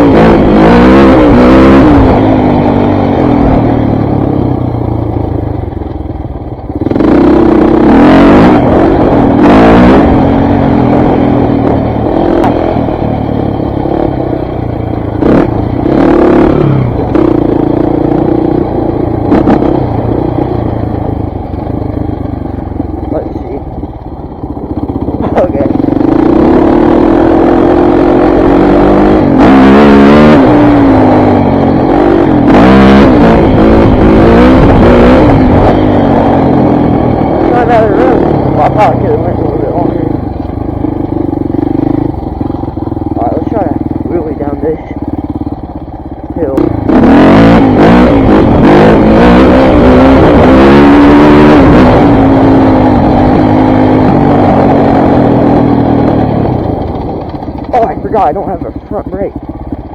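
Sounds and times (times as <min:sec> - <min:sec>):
dirt bike engine revving: 0:00.0 - 0:06.0, 0:06.6 - 0:59.9.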